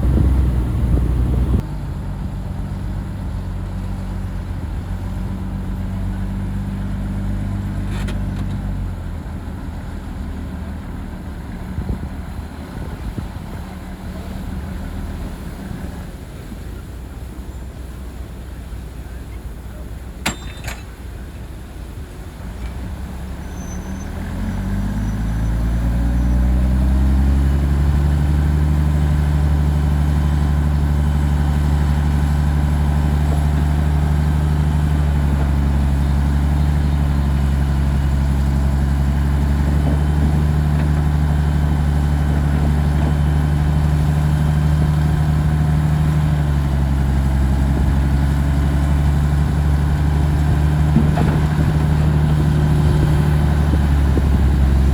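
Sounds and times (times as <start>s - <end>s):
bulldozer diesel engine revving: 0.0s - 15.8s, 23.2s - 54.9s.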